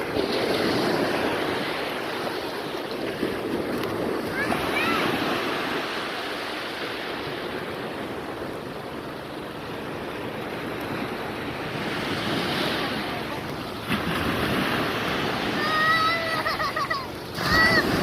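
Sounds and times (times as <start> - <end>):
wind buffeting microphone: 0.0 - 15.8
waves washing onto a beach: 0.0 - 18.0.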